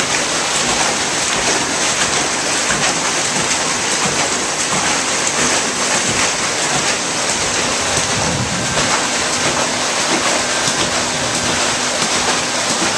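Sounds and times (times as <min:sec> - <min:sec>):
water rushing and churning: 0:00.0 - 0:12.9.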